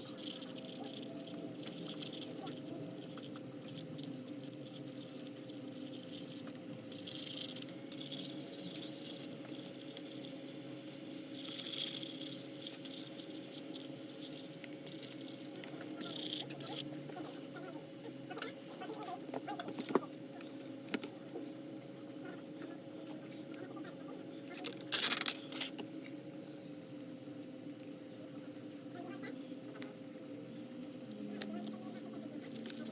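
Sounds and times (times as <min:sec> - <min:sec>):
electrical hum: 0:00.0 - 0:32.9.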